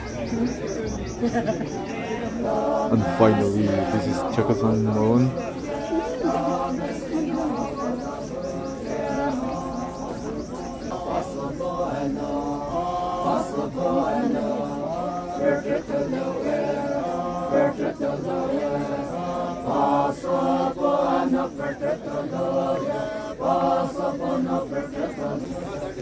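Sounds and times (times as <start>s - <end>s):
group of men chanting unaccompanied: 0.0s - 26.0s.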